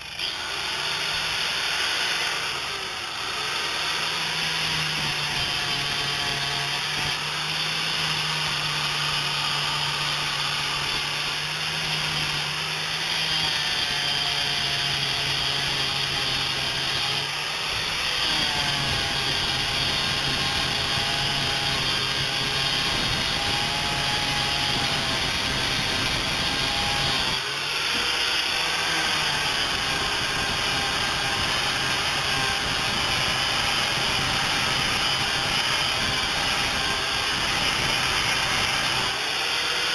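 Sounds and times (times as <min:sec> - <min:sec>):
angle grinder sanding: 0:00.0 - 0:39.9.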